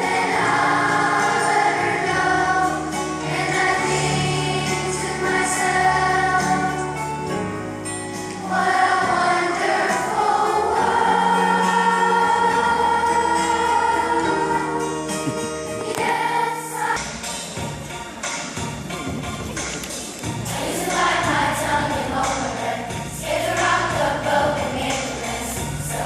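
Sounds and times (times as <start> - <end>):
children's choir singing: 0.0 - 17.6, 20.3 - 26.0
musical accompaniment: 0.0 - 26.0.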